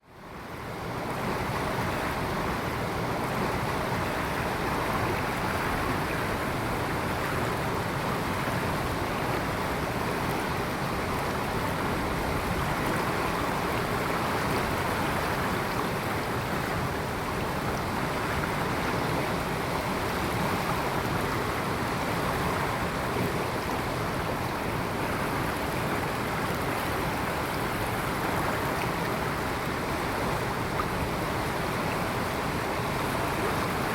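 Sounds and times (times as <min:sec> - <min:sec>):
rushing water: 0:00.1 - 0:33.9.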